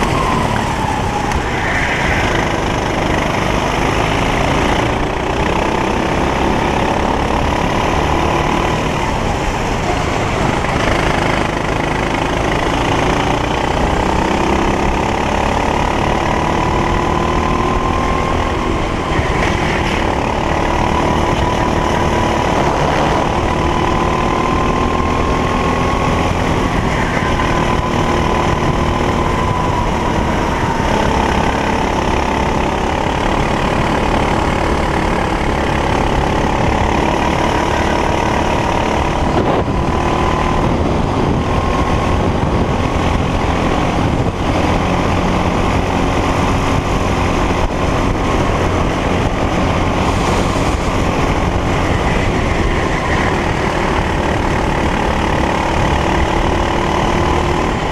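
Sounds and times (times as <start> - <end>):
racing kart engine at high revs: 0.0 - 57.9.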